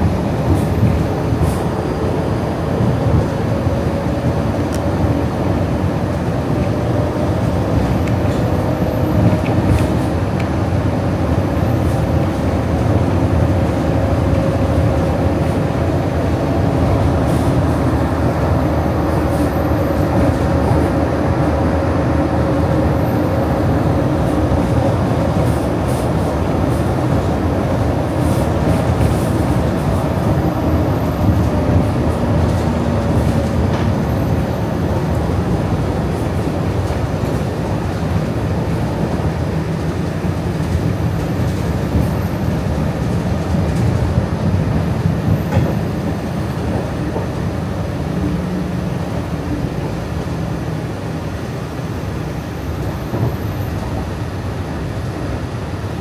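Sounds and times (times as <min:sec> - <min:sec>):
monorail running: 0:00.0 - 0:56.0.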